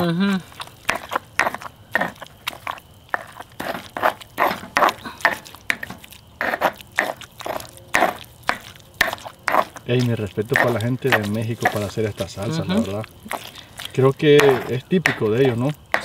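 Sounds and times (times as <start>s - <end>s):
pestle crunching and scraping in mortar: 0.4s - 16.0s.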